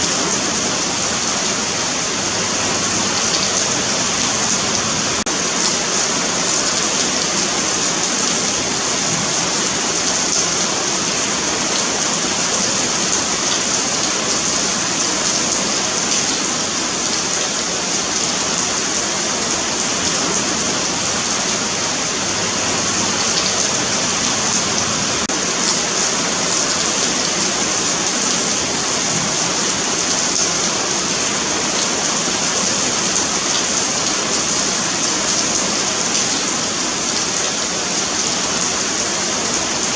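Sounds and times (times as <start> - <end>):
rain on pavement: 0.0 - 39.9.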